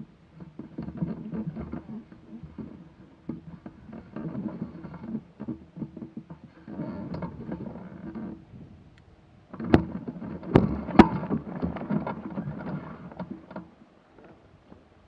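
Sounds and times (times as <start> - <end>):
crackling rustle of sail: 0.0 - 15.0.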